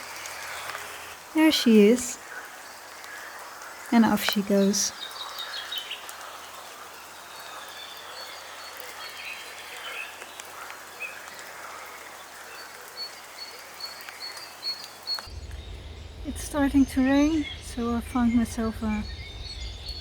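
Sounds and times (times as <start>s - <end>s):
faint bird chirps: 0.0s - 20.0s
light rain pattering: 0.0s - 20.0s.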